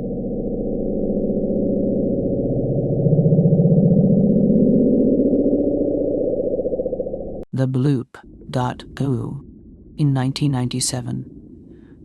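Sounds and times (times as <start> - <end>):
low underwater throbbing rumble: 0.0 - 7.4, 8.2 - 12.0.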